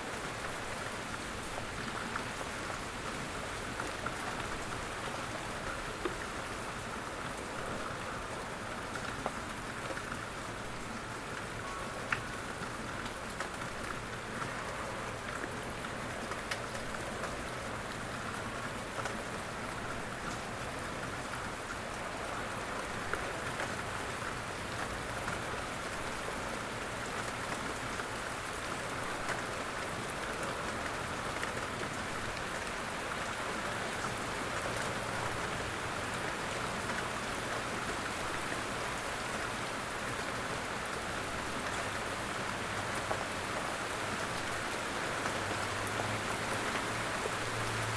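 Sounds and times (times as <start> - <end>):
raindrops pattering: 0.0 - 47.9
steady rain hiss: 0.0 - 47.9.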